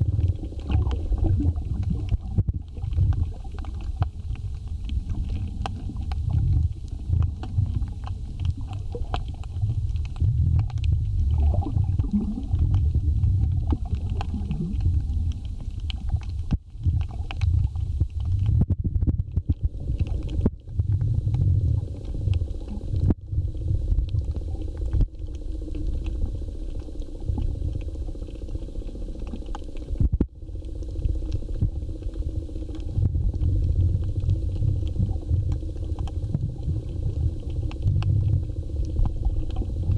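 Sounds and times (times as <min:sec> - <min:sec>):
faint clicks and crackles: 0:00.0 - 0:39.9
underwater rumble of moving water: 0:00.0 - 0:39.9.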